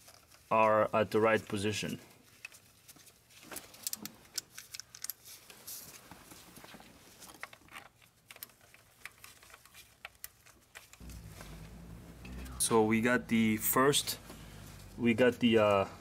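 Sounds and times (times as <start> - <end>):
rustling: 1.4 - 12.7, 13.3 - 15.1.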